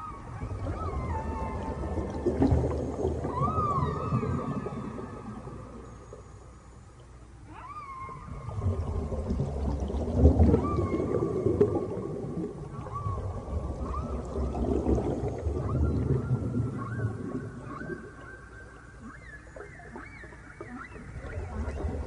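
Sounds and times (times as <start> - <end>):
whale song calls: 0.0 - 22.0.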